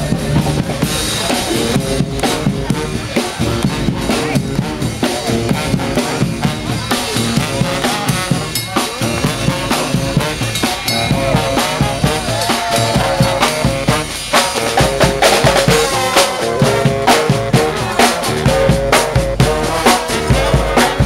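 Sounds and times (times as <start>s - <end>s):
horns playing a tune: 0.0s - 21.0s
marching band drums: 0.0s - 21.0s.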